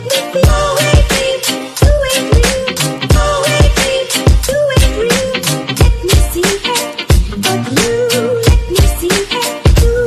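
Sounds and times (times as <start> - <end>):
background music with strong beat: 0.0 - 10.0.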